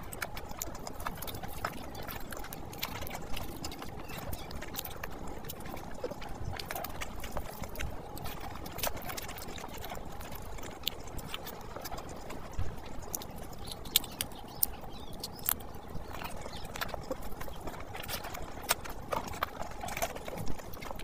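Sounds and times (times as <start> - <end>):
food squishing by hand: 0.0 - 21.0
wet chewing and lip smacks: 0.0 - 21.0.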